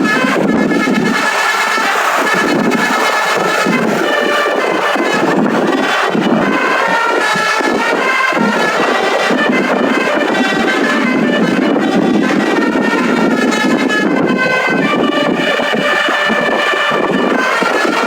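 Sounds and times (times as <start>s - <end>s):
musical air horn playing a tune: 0.0s - 18.0s
steady rushing noise: 0.0s - 18.0s.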